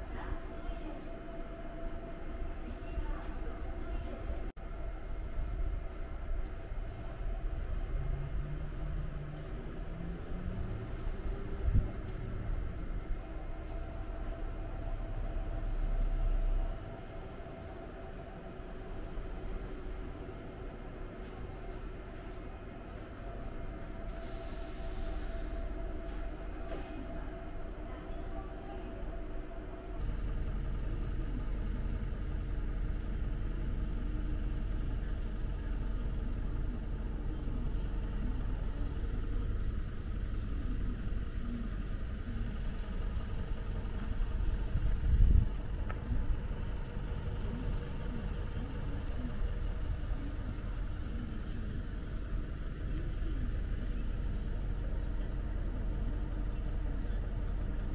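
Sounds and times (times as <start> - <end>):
vehicle engine rumbling: 0.0 - 57.9.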